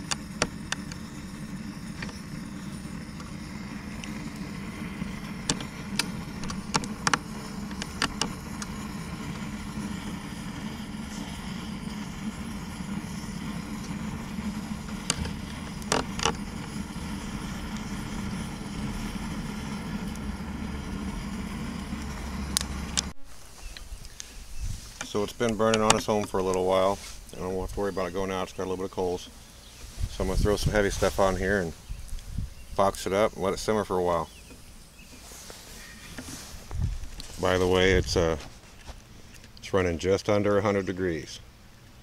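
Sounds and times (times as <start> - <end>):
gas torch burner running: 0.0 - 39.7.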